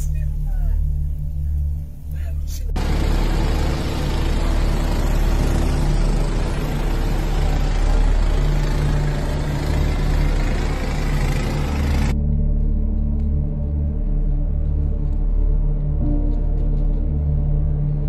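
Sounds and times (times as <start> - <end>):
engine humming: 0.0 - 18.0
low drone of music: 0.0 - 18.0.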